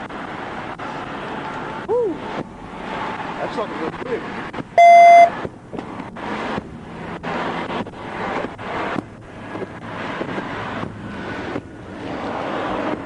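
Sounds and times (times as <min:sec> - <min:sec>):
faint low vehicle hum: 0:00.0 - 0:13.0.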